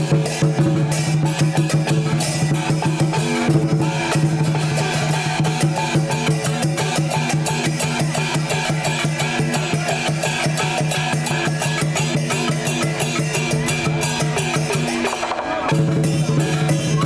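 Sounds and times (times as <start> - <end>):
drum gong and cymbal band: 0.0 - 17.0.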